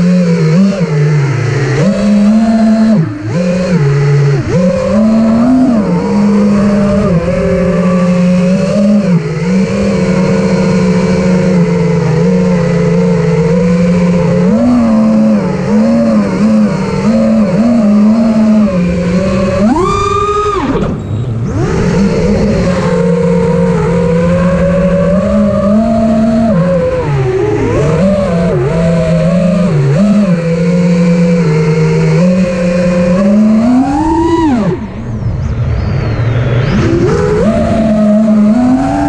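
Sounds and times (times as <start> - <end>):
quadcopter motors buzzing: 0.0 - 39.0.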